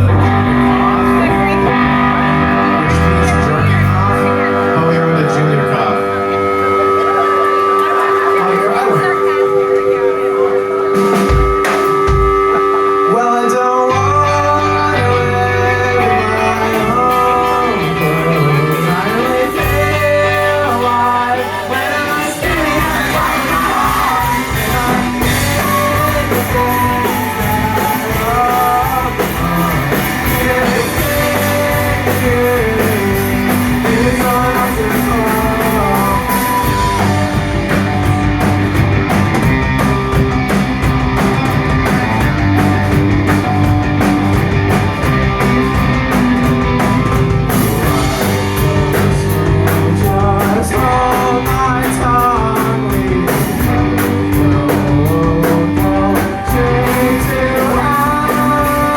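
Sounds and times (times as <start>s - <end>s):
person singing: 0.0s - 38.8s, 46.5s - 58.9s
drums: 0.0s - 58.9s
rock band playing live: 0.0s - 58.9s.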